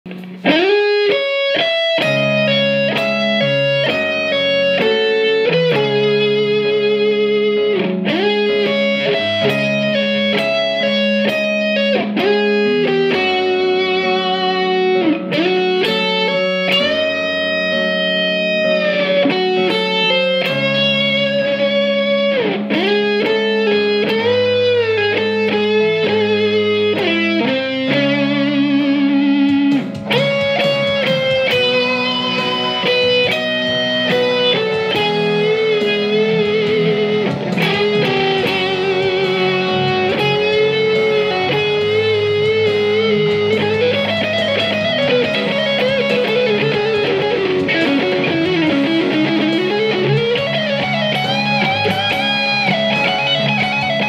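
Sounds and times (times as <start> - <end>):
electric guitar lead line: 0.0 - 54.0.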